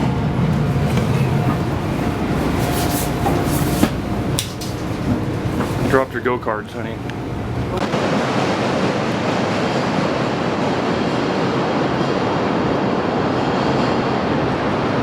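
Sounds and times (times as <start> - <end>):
train running on track: 0.0 - 15.0.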